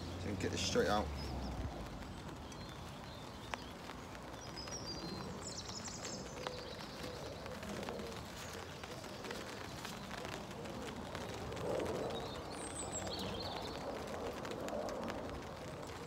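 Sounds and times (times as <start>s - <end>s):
birds chirping: 0.0s - 16.0s
light rain falling: 0.0s - 16.0s.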